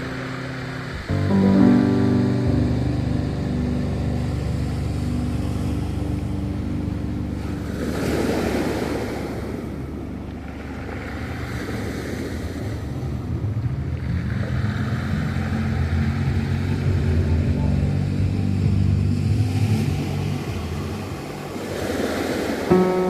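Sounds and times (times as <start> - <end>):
low rumble of surf: 0.0 - 23.0
waves washing onto shore: 0.0 - 23.0.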